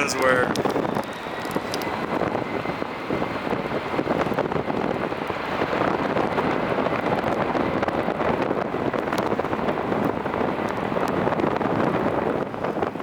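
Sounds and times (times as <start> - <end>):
rain and wind on microphone: 0.0 - 13.0.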